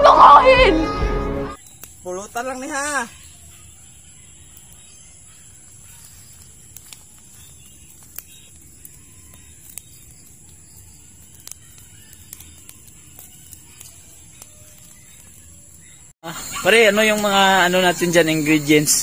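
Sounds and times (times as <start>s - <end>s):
palm fronds fire crackling: 1.6s - 19.0s.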